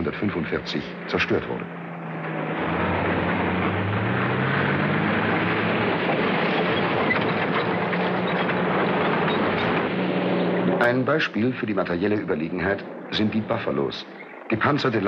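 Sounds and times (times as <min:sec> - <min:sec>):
tank engine running: 0:00.0 - 0:15.0.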